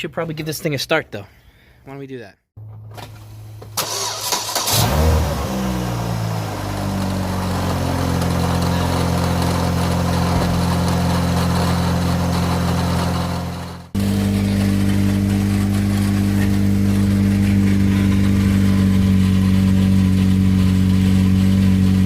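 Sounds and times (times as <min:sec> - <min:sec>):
car engine starting and idling: 0:02.6 - 0:22.0.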